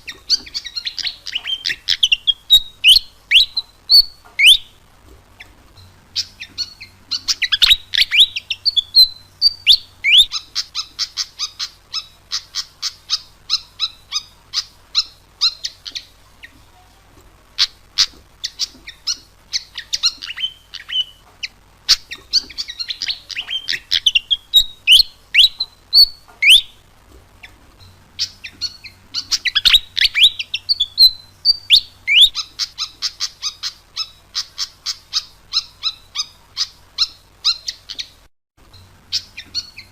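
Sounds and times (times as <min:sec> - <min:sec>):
bird chirping and whistling: 0:00.0 - 0:04.8, 0:06.2 - 0:16.1, 0:17.6 - 0:26.8, 0:28.2 - 0:38.2, 0:39.1 - 0:39.9.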